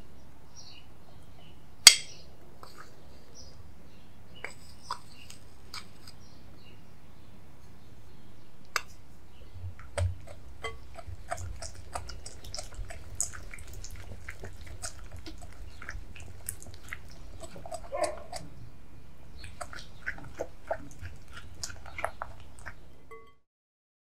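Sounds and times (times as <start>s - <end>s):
low steady hum: 0.0s - 23.4s.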